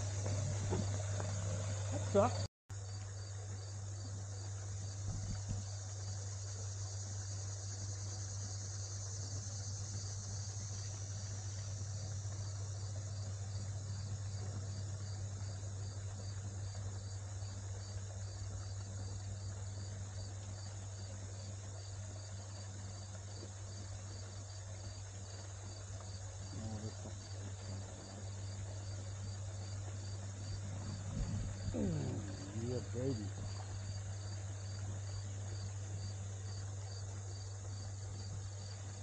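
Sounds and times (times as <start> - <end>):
insects chirping: 0.0 - 39.0
steady low hum: 0.0 - 39.0.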